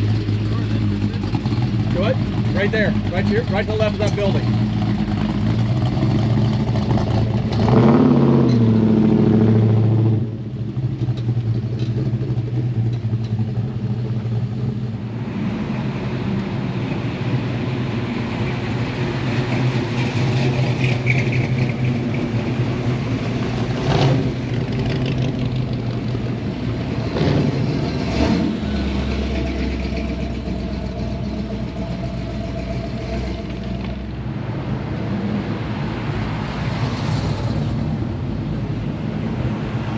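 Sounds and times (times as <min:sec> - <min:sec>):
truck engines running: 0:00.0 - 0:39.9.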